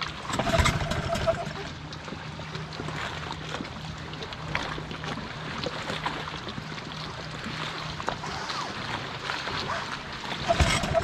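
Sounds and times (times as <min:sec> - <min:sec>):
water lapping and trickling: 0:00.0 - 0:11.0.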